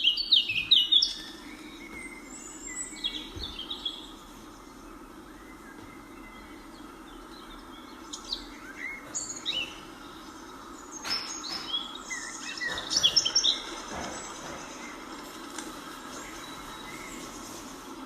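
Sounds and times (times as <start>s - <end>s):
birds chirping and whistling: 0.0s - 18.0s
steady background hiss: 0.0s - 18.0s.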